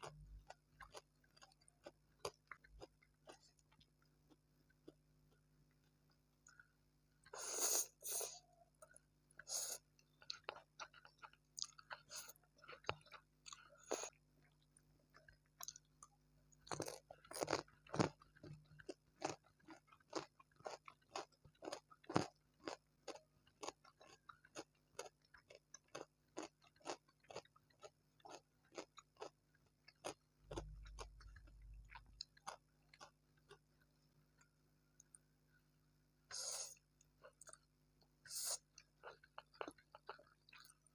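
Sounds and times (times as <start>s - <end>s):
person chewing crunchy food: 0.0s - 35.2s, 36.3s - 40.9s.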